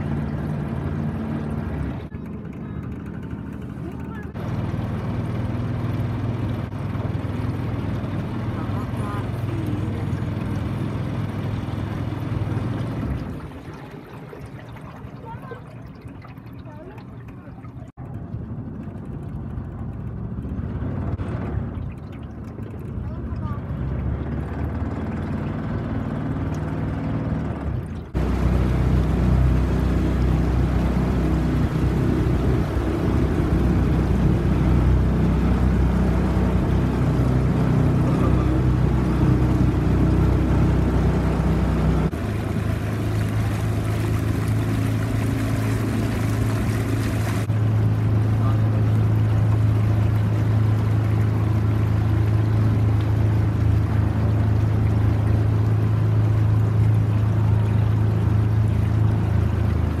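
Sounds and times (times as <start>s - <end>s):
boat motor running: 0.0s - 60.0s
water rushing along hull: 0.0s - 60.0s.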